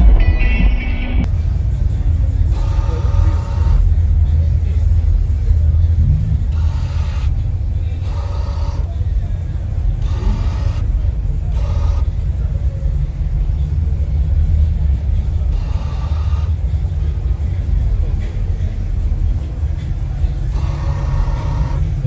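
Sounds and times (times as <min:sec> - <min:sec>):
faint voices: 0:00.0 - 0:22.0
car engine deep rumble: 0:01.2 - 0:22.0.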